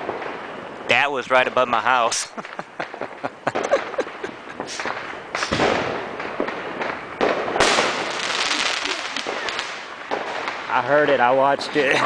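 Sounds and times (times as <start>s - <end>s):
fireworks and firecrackers popping: 0.0s - 1.4s, 2.0s - 11.9s.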